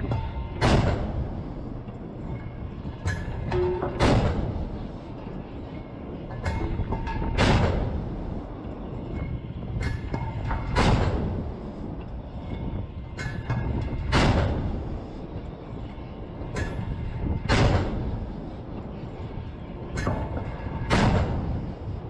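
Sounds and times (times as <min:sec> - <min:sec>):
wind rumble: 0:00.0 - 0:22.0.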